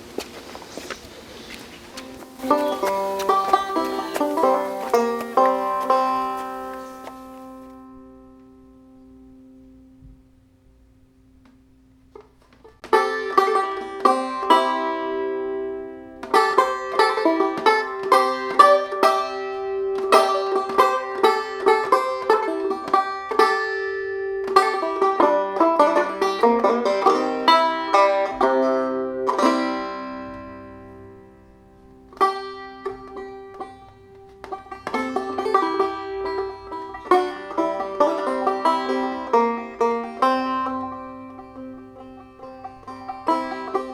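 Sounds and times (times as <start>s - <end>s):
plucked string instrument music: 0.0s - 10.3s, 11.3s - 43.9s.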